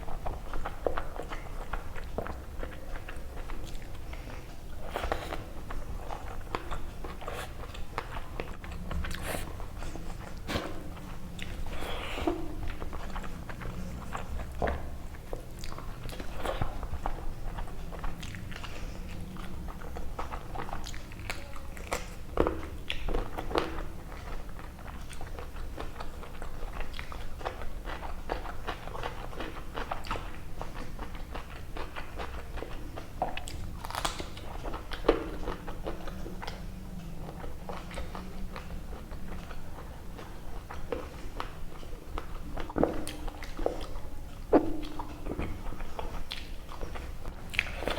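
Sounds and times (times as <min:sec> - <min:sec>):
food crunching: 0:00.0 - 0:47.9
wet chewing and smacking: 0:00.0 - 0:47.9.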